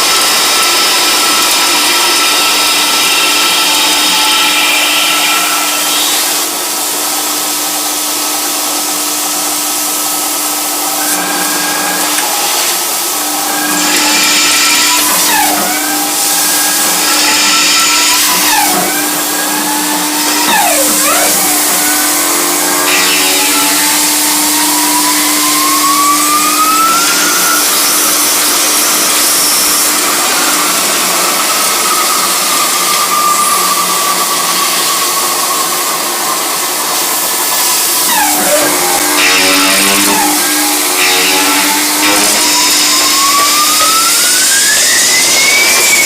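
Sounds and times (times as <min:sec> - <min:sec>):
lathe machine whine: 0:00.0 - 0:46.0.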